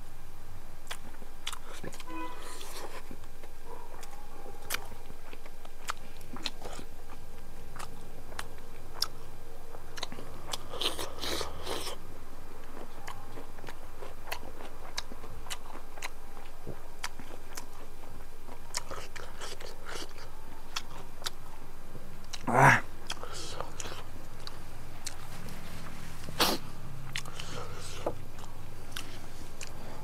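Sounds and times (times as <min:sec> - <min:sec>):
crunching while chewing: 0:00.8 - 0:21.5, 0:22.1 - 0:30.0.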